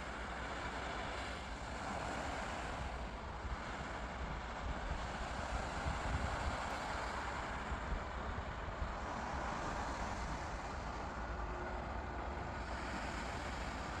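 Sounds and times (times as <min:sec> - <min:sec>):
sea waves washing ashore: 0:00.0 - 0:14.0
wind rumble on microphone: 0:00.0 - 0:14.0.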